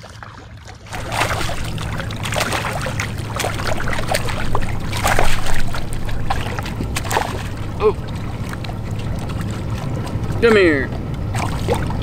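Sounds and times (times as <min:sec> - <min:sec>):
fish splashing in water: 0:00.0 - 0:12.0
steady low hum: 0:00.1 - 0:12.0.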